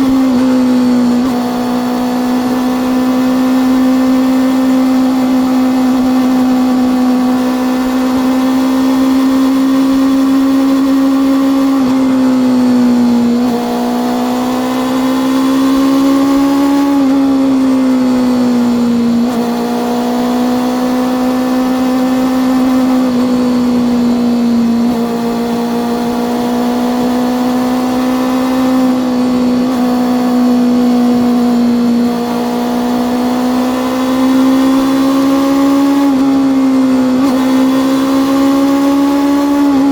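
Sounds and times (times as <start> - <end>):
motorcycle engine and exhaust cruising: 0.0 - 39.9.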